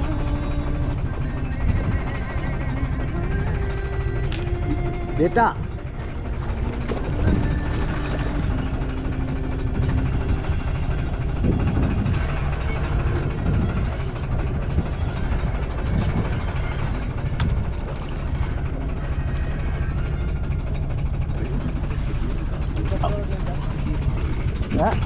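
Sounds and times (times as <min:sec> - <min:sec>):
boat engine idling: 0:00.0 - 0:25.0
water against hull: 0:00.0 - 0:25.0.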